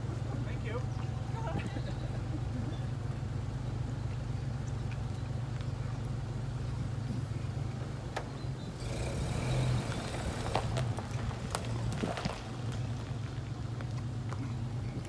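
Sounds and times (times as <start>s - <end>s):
car engine humming: 0.0s - 15.0s
tyres crunching over gravel: 0.0s - 15.0s.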